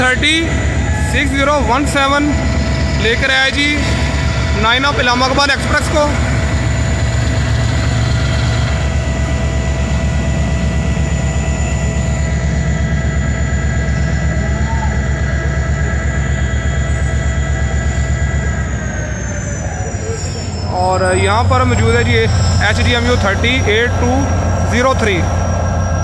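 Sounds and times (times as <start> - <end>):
diesel locomotive engine throb: 0.0 - 26.0
steady high whine: 0.0 - 26.0.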